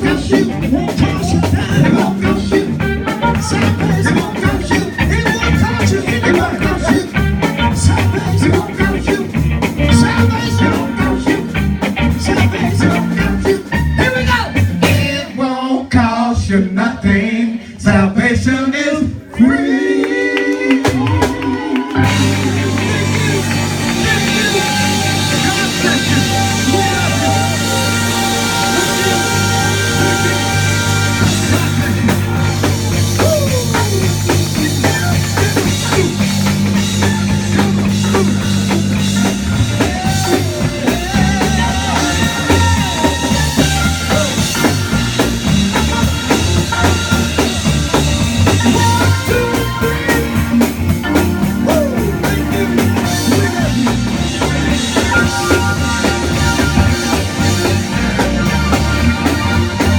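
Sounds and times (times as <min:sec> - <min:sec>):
instrumental band music: 0:00.0 - 0:15.4, 0:20.1 - 0:59.9.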